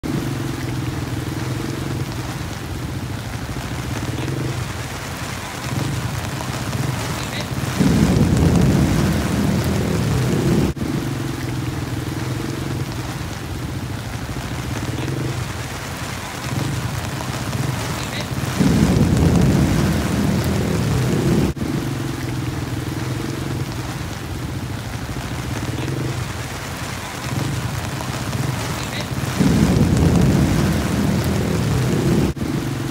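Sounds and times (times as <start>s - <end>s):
heavy rain: 0.0s - 32.9s
thunder rumbling: 0.0s - 32.9s.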